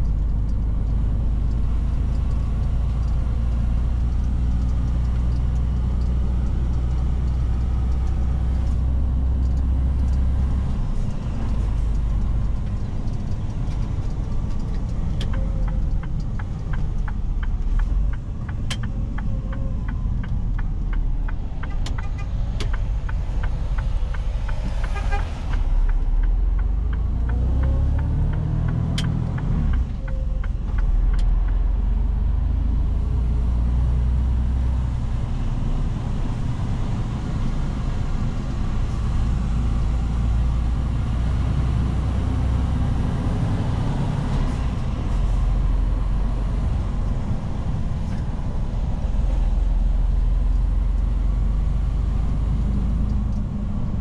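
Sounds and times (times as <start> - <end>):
truck diesel engine under load: 0.0 - 54.0.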